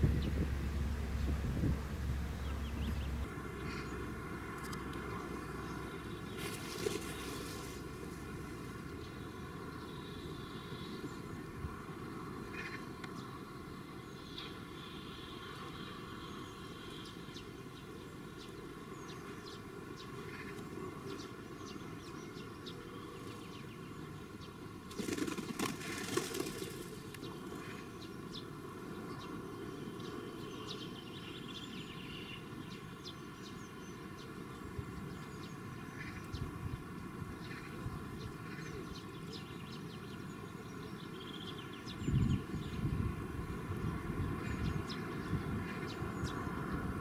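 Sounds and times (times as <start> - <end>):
distant traffic rumble: 0.0 - 47.0
small birds chirping: 2.3 - 11.8, 12.5 - 47.0.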